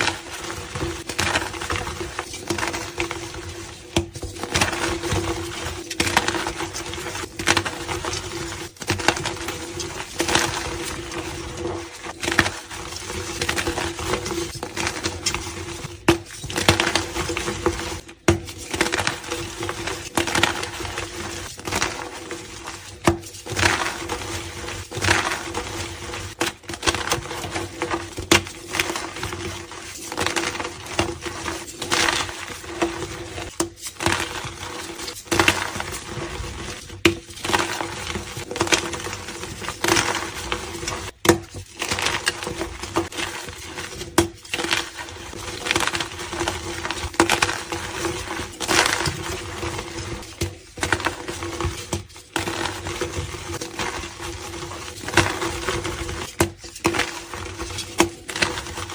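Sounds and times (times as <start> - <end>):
chalk crushing crunches: 0.0 - 58.9.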